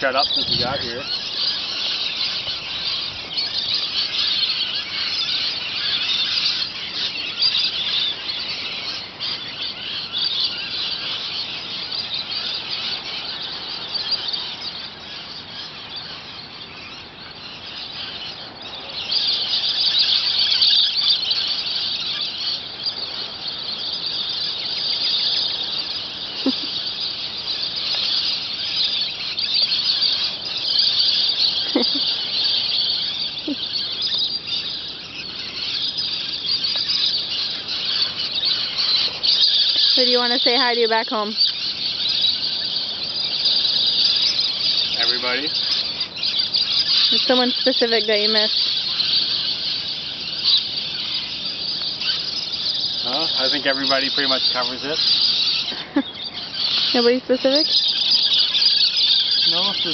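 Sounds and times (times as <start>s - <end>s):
flock of birds screeching: 0.0s - 59.9s.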